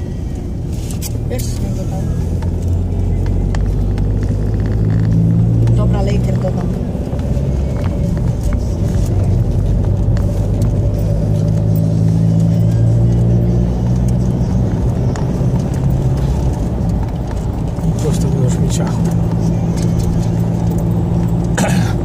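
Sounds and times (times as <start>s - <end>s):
car interior driving drone: 0.0s - 22.0s.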